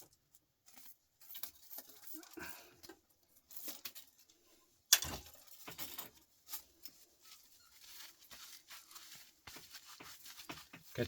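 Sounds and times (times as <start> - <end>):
small metal parts clicking and rustling: 0.0 - 11.0.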